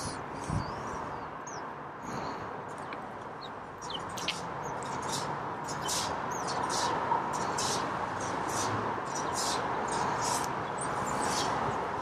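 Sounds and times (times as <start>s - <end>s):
sparrows chirping: 0.0s - 12.0s
steady background noise: 0.0s - 12.0s.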